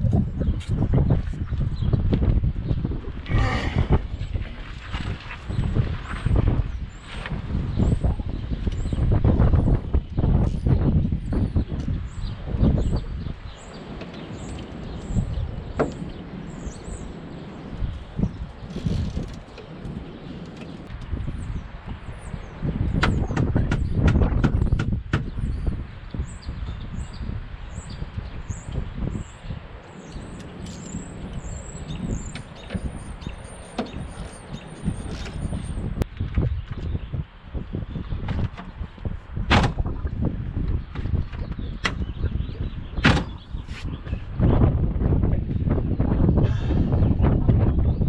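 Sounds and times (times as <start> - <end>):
small birds chirping: 0.0 - 39.2, 40.6 - 48.0
wind rumble on microphone: 0.0 - 48.0.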